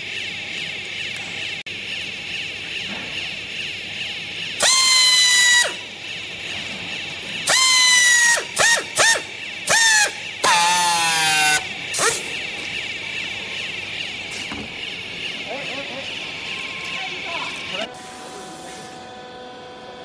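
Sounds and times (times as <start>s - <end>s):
power strapping tool whining: 1.2s - 19.1s.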